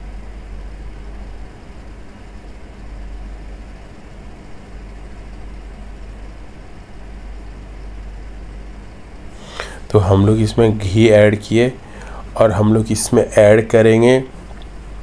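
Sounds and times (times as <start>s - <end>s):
kitchen rumble and hiss: 0.0s - 15.0s.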